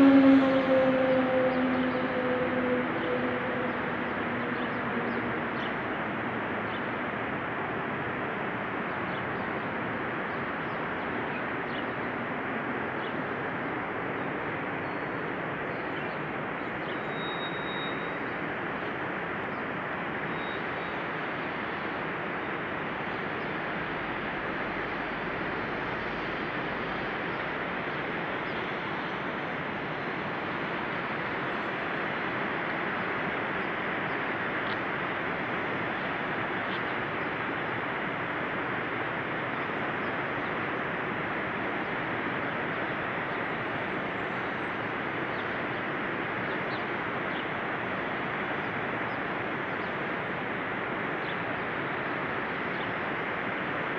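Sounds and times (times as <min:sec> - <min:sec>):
steady rushing noise: 0:00.0 - 0:17.1, 0:18.0 - 0:53.9.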